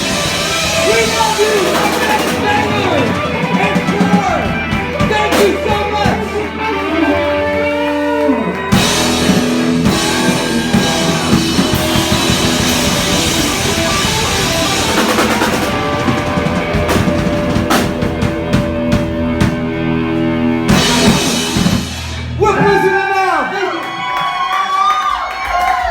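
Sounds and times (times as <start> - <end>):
distorted electric guitar lead: 0.0 - 22.8
heavy metal band playing: 0.0 - 23.7.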